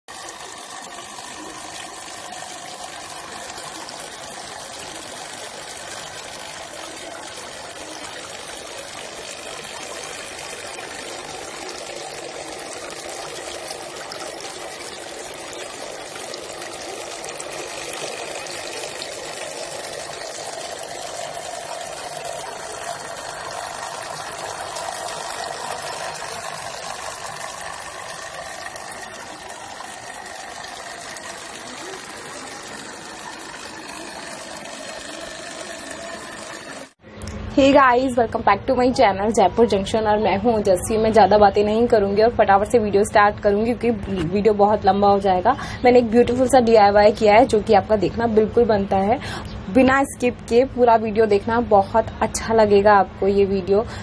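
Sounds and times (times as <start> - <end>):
water pouring down a fountain: 0.0 - 37.0, 39.0 - 54.0.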